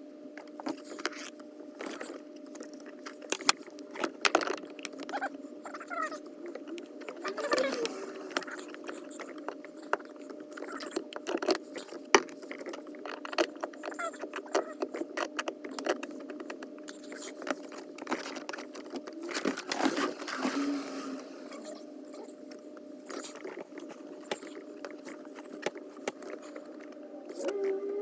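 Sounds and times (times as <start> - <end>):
steady hum: 0.0 - 13.8, 14.4 - 28.0.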